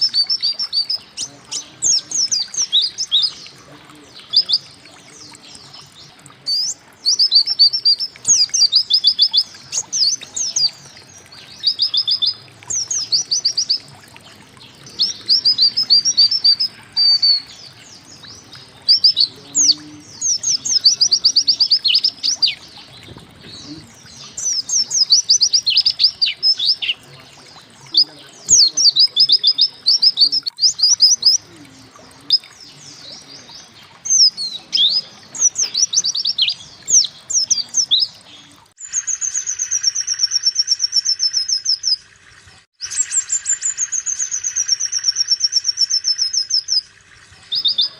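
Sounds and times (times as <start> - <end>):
small bird trilling song: 0.0 - 42.1, 42.8 - 47.9.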